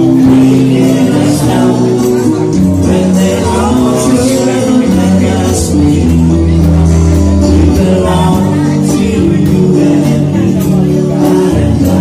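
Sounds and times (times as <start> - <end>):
cajon beats: 0.0 - 12.0
guitars playing: 0.0 - 12.0
man singing: 0.0 - 12.0.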